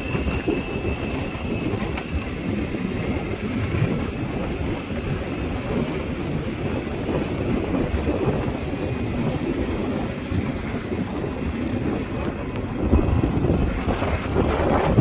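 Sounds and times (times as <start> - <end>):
motorbike road and engine noise: 0.0 - 15.0
wind buffeting microphone: 0.0 - 15.0.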